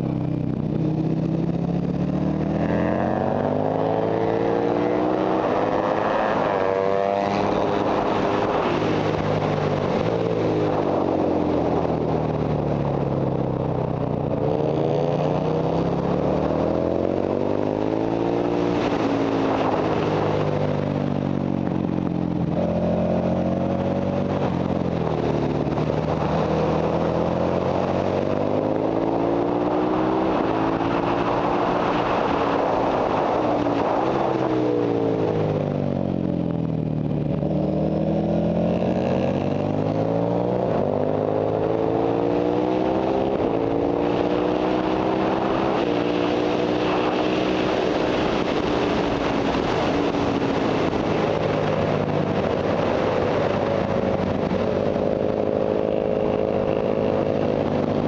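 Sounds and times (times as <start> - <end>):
motorcycle engine revving: 0.0 - 58.0
wind rush on microphone: 0.0 - 58.0.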